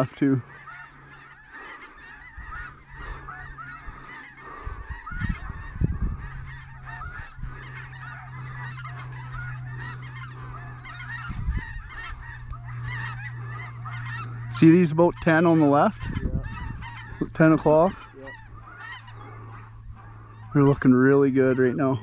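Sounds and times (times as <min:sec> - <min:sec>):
geese calling: 0:00.0 - 0:22.0
wind rumble on microphone: 0:02.3 - 0:22.0.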